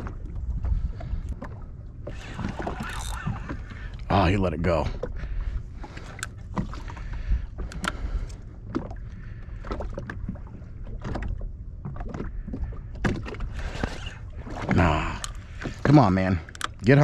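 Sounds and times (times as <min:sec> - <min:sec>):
waves slapping against hull: 0:00.0 - 0:17.0
wind rumble on microphone: 0:00.0 - 0:17.0.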